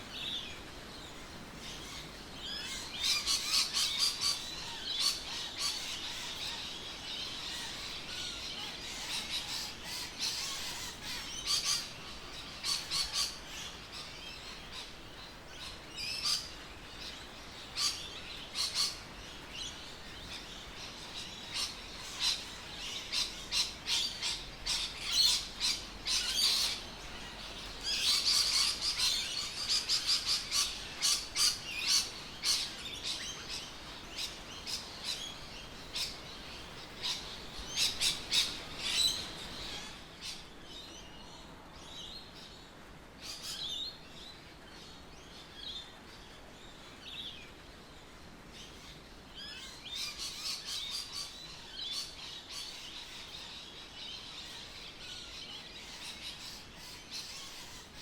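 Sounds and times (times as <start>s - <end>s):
birds chirping: 0.0s - 47.8s
faint background hiss: 0.0s - 58.0s.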